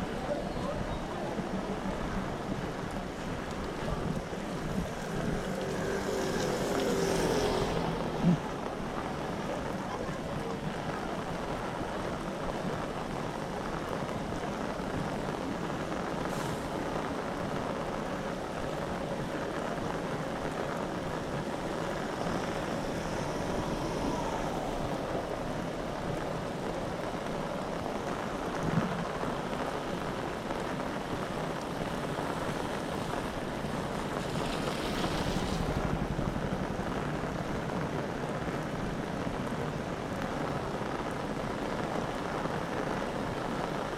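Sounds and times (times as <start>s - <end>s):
heavy rain on street: 0.0s - 43.9s.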